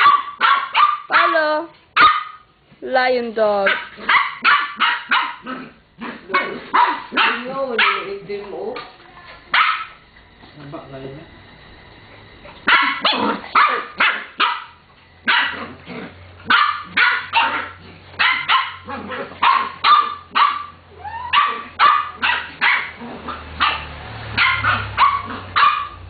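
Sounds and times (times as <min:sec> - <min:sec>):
small dogs barking: 0:00.0 - 0:02.6, 0:03.6 - 0:08.4, 0:09.5 - 0:10.1, 0:12.4 - 0:26.0.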